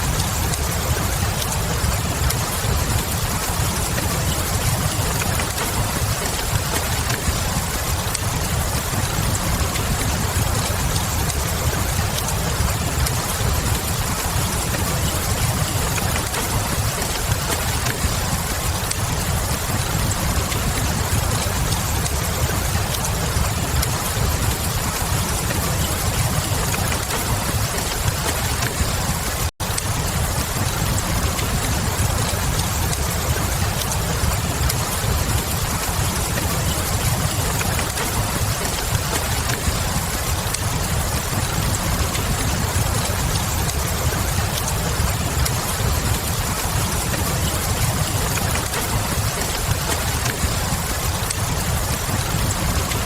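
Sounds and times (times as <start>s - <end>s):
constant low rumble: 0.0s - 53.0s
fire crackling: 0.0s - 53.0s
rain: 0.0s - 53.0s.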